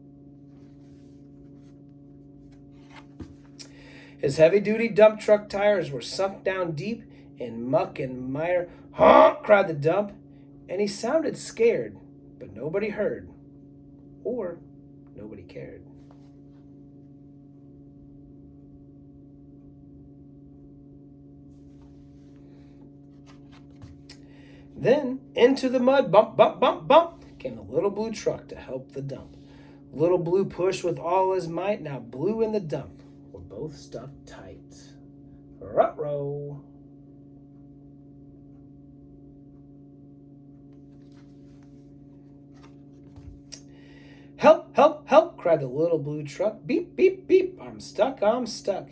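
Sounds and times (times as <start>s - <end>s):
low electrical hum: 0.0s - 48.9s.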